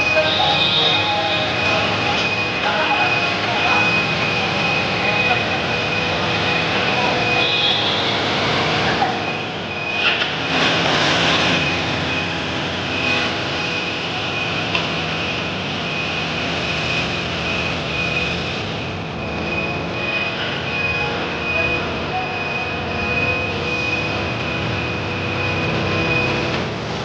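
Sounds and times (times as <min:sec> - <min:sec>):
high beep: 0:00.0 - 0:26.6
factory machinery din: 0:00.0 - 0:27.0.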